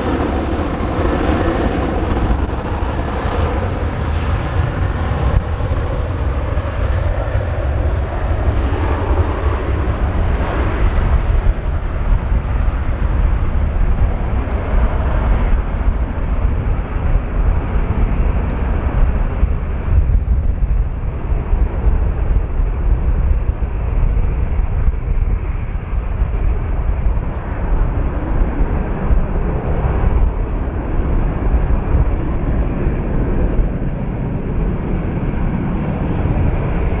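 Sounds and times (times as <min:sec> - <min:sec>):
jet engine roar: 0:00.0 - 0:37.0
wind buffeting microphone: 0:00.0 - 0:37.0.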